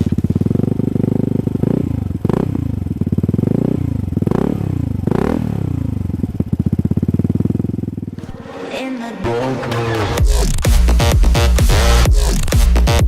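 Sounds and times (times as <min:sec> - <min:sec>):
motorcycle engine idling and revving: 0:00.0 - 0:08.2, 0:10.1 - 0:13.0.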